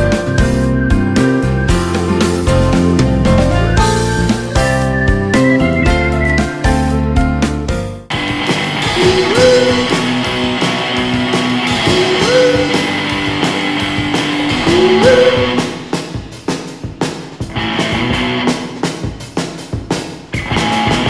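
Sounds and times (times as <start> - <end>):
guitar-led rock music: 0.0 - 21.0.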